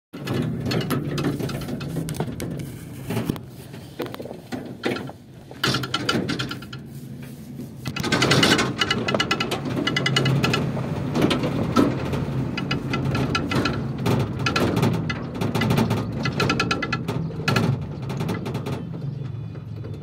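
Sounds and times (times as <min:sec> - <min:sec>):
knocks and rattles: 0:00.1 - 0:06.9, 0:07.8 - 0:20.0
vehicle engine low hum: 0:00.2 - 0:20.0.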